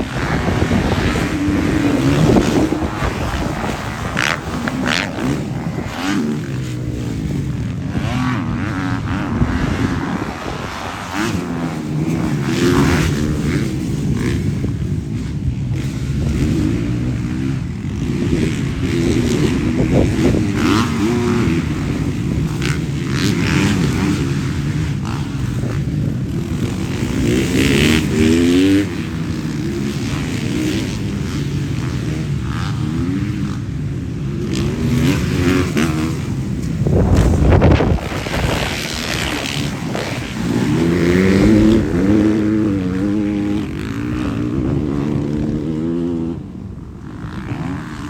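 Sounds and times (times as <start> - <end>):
motocross bike engines revving: 0.0 - 48.0.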